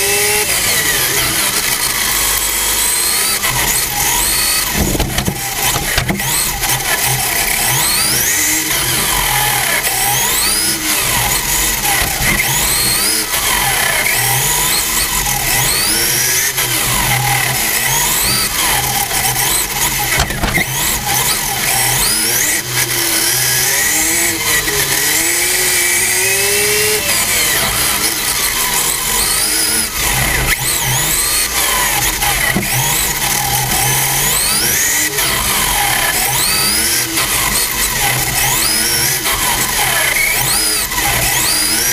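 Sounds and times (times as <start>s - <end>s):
rc car motors whining: 0.0s - 41.9s.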